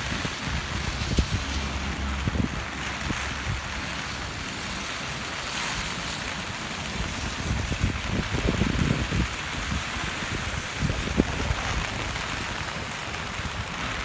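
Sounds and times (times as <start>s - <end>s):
river rushing: 0.0s - 14.0s
wind buffeting microphone: 0.0s - 14.0s.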